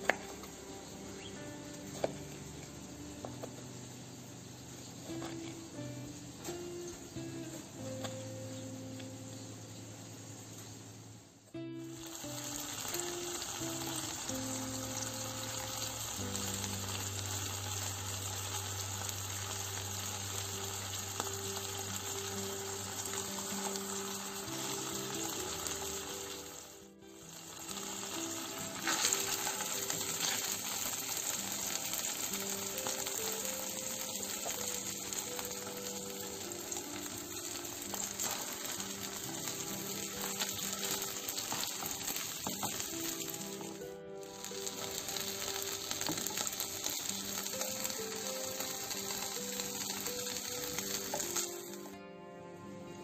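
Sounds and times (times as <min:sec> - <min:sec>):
burger patty sizzling in a pan: 0:00.0 - 0:52.0.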